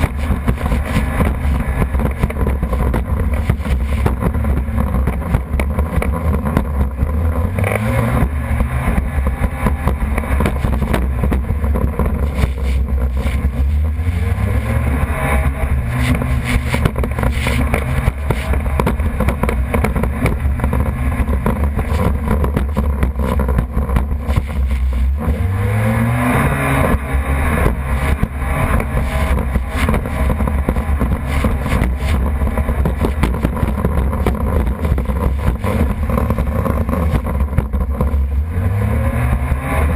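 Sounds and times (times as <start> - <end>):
jet ski engine revving: 0.0 - 39.9.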